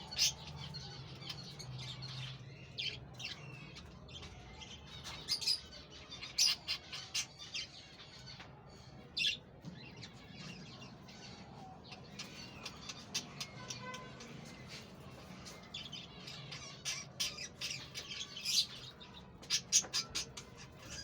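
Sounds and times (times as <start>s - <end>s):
parrots chirping and squawking: 0.0s - 9.4s, 10.0s - 21.0s.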